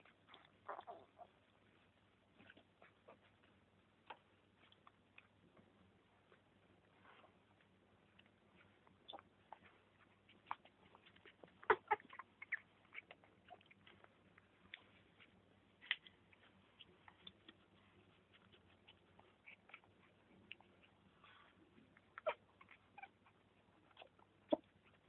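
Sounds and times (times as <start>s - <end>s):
young pets squeaking and clicking: 0.0s - 25.0s.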